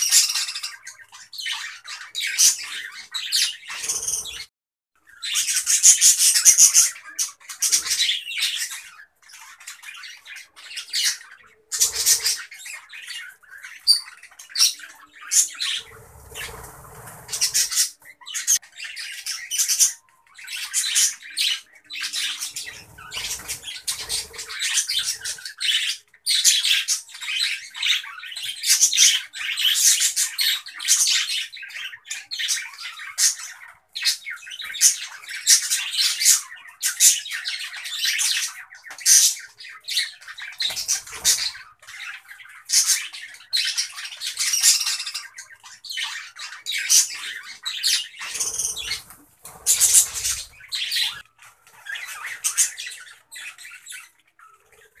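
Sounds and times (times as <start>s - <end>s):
budgerigars chattering and squawking: 0.0s - 4.5s, 5.1s - 55.0s.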